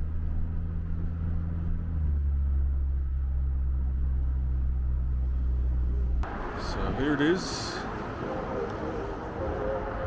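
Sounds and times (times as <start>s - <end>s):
vehicle engine and road drone: 0.0s - 10.0s.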